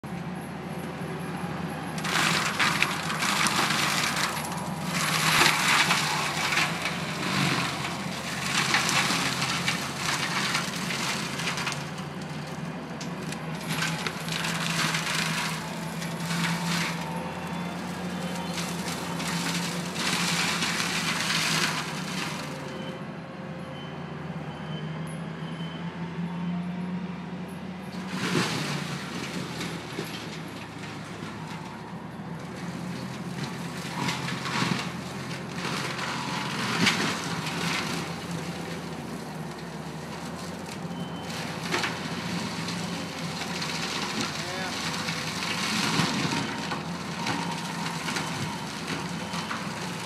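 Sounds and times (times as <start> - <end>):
skid steer engine running: 0.0 - 50.0
mulcher grinding wood: 0.1 - 22.8, 28.0 - 50.0.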